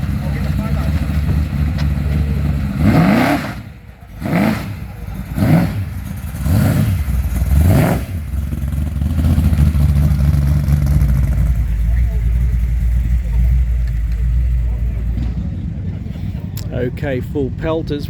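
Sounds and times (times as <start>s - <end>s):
vehicle engine idling and revving: 0.0s - 18.0s.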